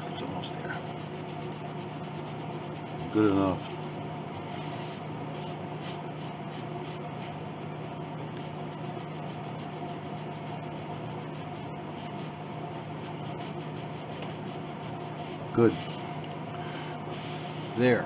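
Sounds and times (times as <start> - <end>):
steady background hum: 0.0 - 18.0
cloth rubbing on wood: 0.2 - 16.1, 17.1 - 18.0.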